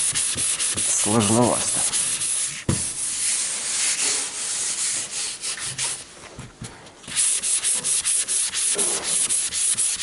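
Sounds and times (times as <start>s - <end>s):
sanding sponge scratching panel: 0.0s - 6.0s, 7.1s - 10.0s.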